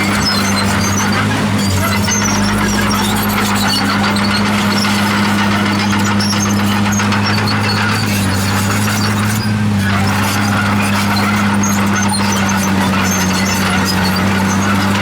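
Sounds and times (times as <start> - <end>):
bulldozer diesel engine running: 0.0 - 15.0
short high squeaks: 0.0 - 15.0.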